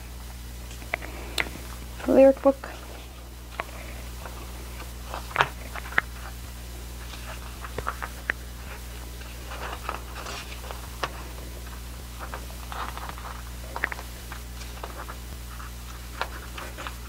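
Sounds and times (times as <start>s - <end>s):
paper rustling: 0.7s - 17.0s.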